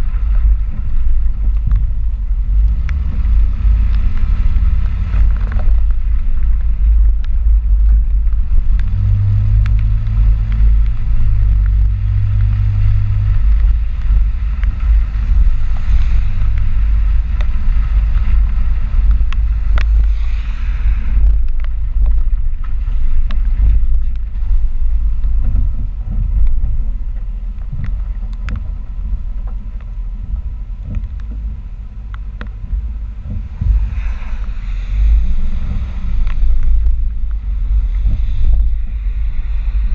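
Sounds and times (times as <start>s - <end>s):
low hum: 0.0s - 39.9s
road and wind noise rumble: 0.0s - 39.9s.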